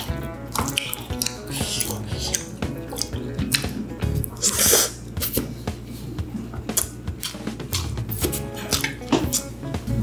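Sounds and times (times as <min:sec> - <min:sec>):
wet chewing: 0:00.0 - 0:05.4, 0:06.6 - 0:09.5.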